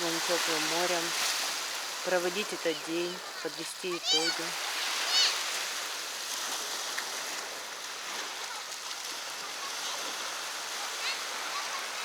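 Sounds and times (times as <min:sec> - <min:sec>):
gentle surf on beach: 0:00.0 - 0:12.0.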